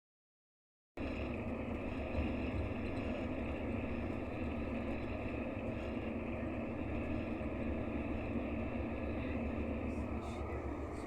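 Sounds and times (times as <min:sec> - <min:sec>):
diesel engine droning: 0:01.0 - 0:11.0.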